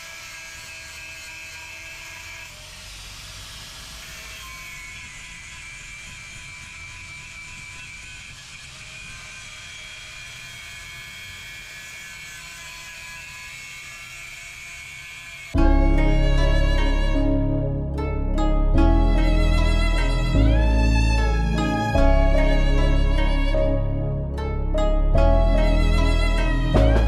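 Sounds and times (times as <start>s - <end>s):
angle grinder cutting steel: 0.0s - 27.0s.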